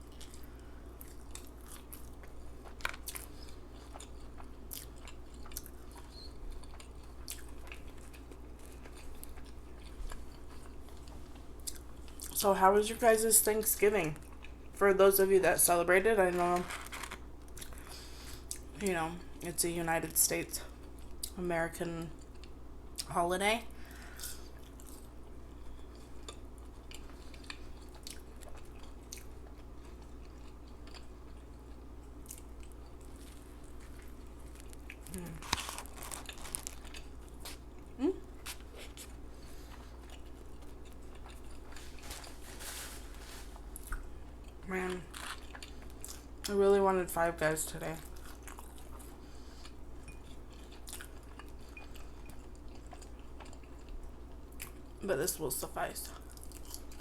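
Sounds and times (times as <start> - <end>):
person chewing food: 0.0 - 12.4, 14.2 - 14.8, 16.7 - 18.8, 22.2 - 23.1, 23.9 - 46.5, 48.0 - 55.0, 56.2 - 57.0
steady low hum: 0.0 - 57.0.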